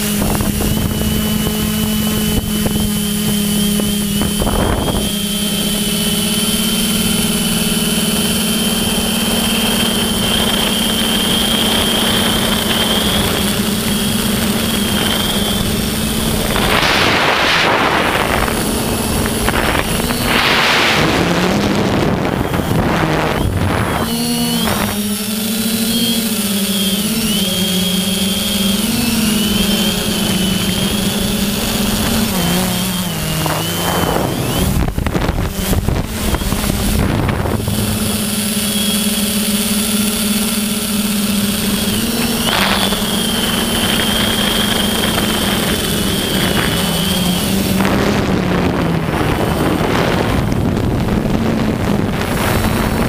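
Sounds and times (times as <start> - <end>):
drone motors whining: 0.0 - 53.0
wind noise on microphone: 0.0 - 53.0.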